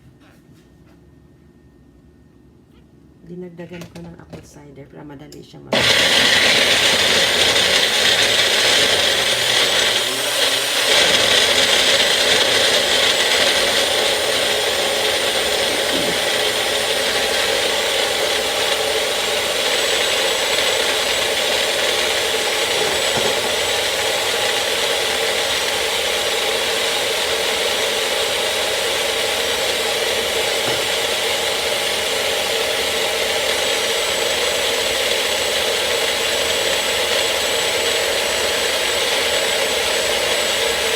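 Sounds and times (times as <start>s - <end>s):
electric blender running: 5.7s - 40.9s.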